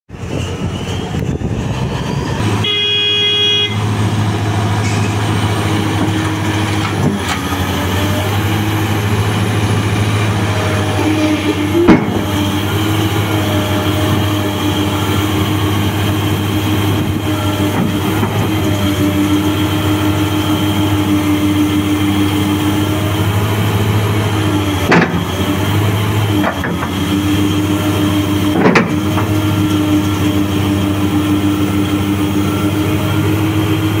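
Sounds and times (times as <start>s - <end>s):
diesel engine droning: 0.1s - 34.0s
hydraulic whine: 0.1s - 34.0s.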